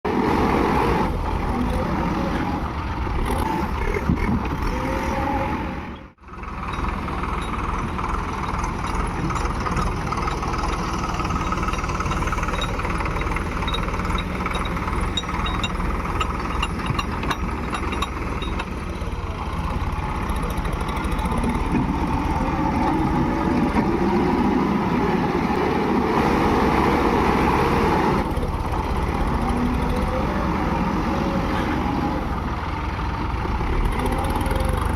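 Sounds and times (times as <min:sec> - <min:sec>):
heavy machinery diesel engine: 0:00.1 - 0:34.9.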